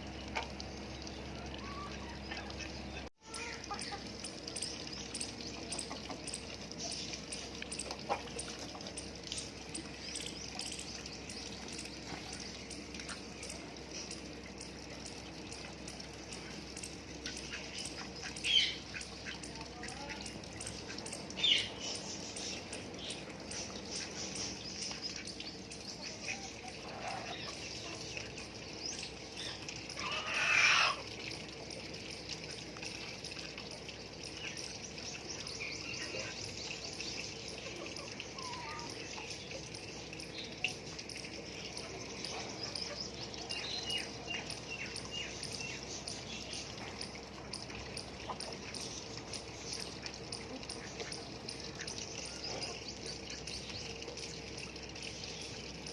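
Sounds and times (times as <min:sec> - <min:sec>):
birds calling: 0:00.0 - 0:55.9
light rain hiss: 0:00.0 - 0:55.9.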